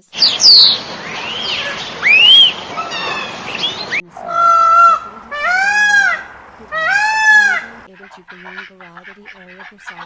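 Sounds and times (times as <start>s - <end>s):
goose honking: 0.0s - 10.0s
whistled animal calls: 0.0s - 10.0s.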